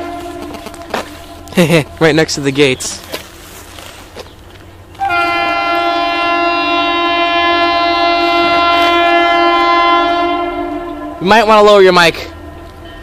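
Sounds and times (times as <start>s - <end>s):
train horn blast: 0.0s - 3.5s, 5.0s - 13.0s.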